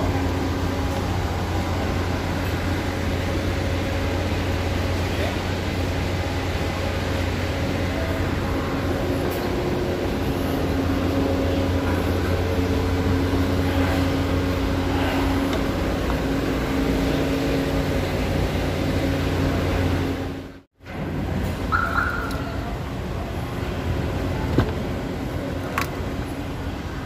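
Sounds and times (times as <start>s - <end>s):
ship engines droning: 0.0s - 27.0s.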